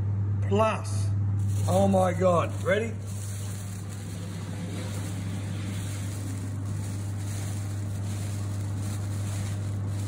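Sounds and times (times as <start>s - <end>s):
low machine hum: 0.0s - 10.0s
aluminium foil crinkling: 1.4s - 10.0s.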